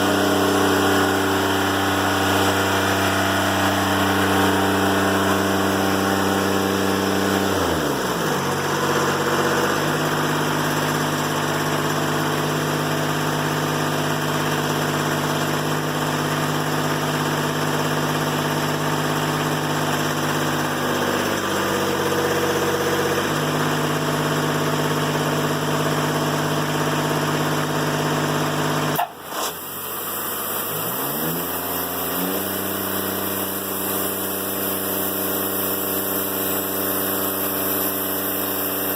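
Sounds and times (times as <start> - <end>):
diesel sawmill engine cutting log: 0.0 - 38.9.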